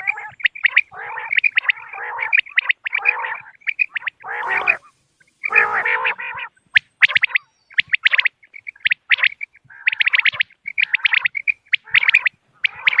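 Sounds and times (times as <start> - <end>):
quail calling: 0.0 - 13.0.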